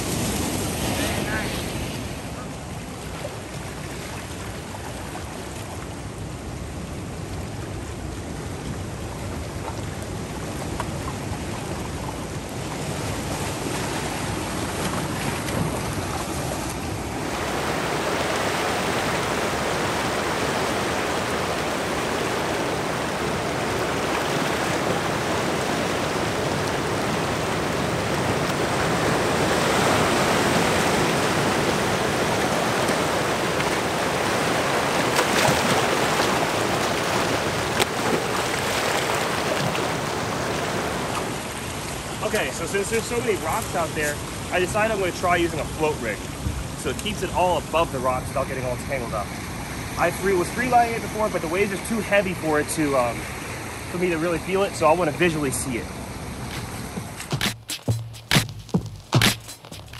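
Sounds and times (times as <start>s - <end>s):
ocean waves breaking on rocks: 0.0s - 57.6s.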